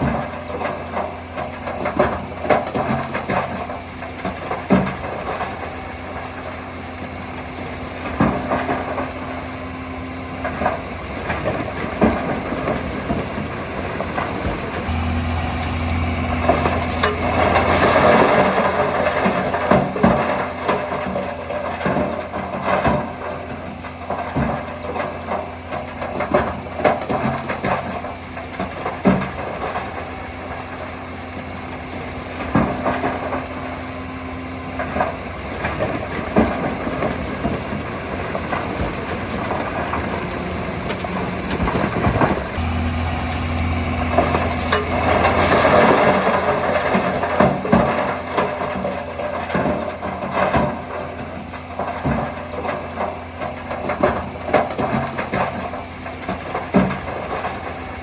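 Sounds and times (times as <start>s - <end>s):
metal clanks and knocks: 0.0s - 9.6s, 10.4s - 34.0s, 34.7s - 58.0s
diesel machinery running: 0.0s - 58.0s
rushing noise of earth: 0.0s - 58.0s.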